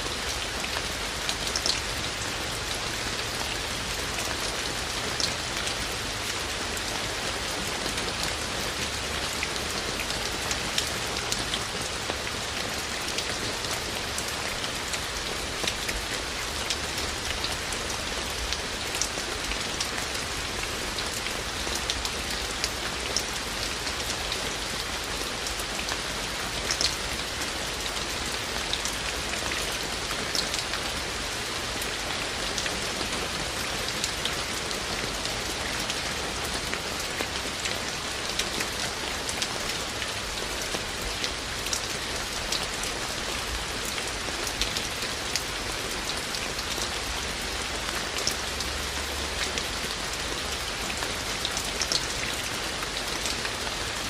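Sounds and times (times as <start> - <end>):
rain splashing on hard surfaces: 0.0 - 54.0.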